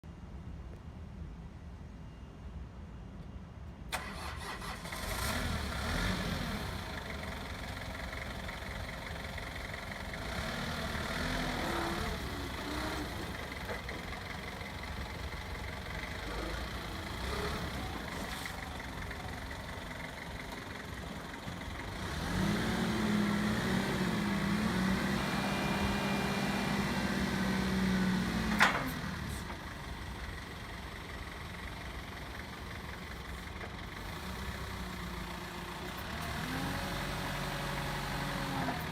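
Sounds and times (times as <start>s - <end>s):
forklift engine idling and revving: 3.9s - 38.9s.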